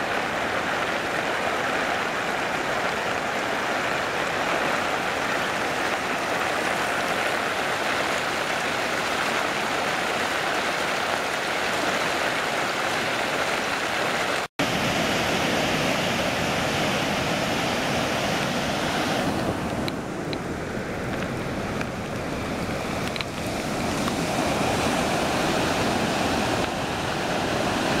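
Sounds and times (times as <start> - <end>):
floodwater rushing: 0.0 - 28.0
stream pouring over weir: 0.0 - 28.0.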